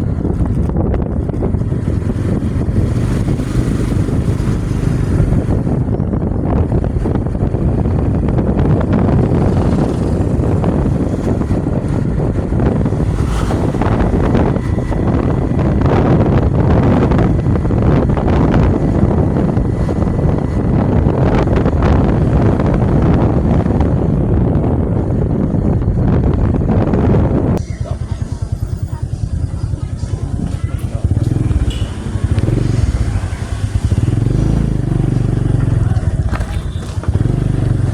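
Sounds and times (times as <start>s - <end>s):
motorcycle rumble: 0.0s - 37.9s
road noise: 0.0s - 37.9s
wind buffeting microphone: 0.0s - 37.9s.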